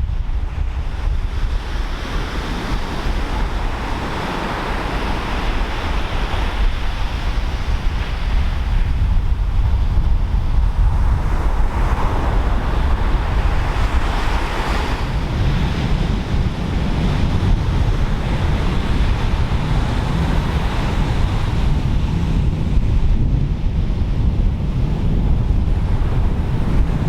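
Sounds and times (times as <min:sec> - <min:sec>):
surf breaking and washing ashore: 0:00.0 - 0:27.0
wind buffeting microphone: 0:00.0 - 0:27.0.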